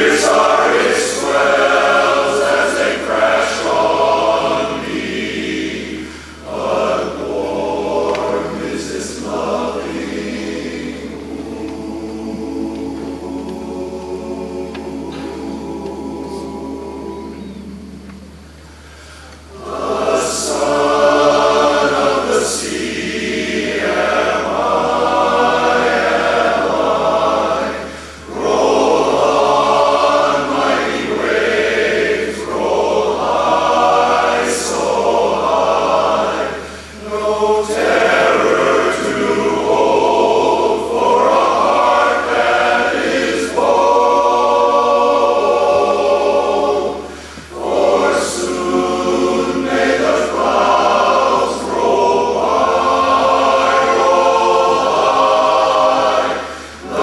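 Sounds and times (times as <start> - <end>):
male chorus singing a cappella: 0.0 - 57.0.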